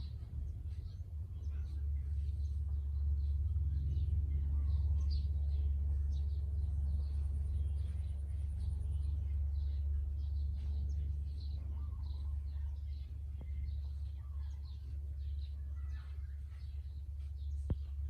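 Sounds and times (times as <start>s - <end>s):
birds chirping faintly: 0.0s - 18.0s
low hum: 0.0s - 18.0s.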